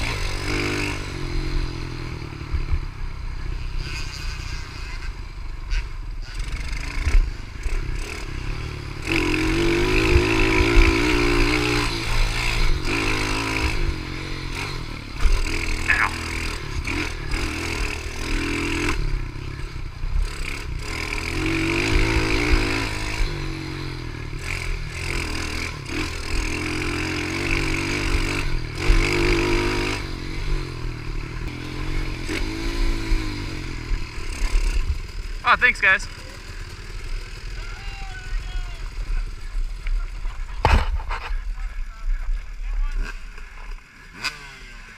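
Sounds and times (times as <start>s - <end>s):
pit bike engine revving: 0.0s - 44.9s.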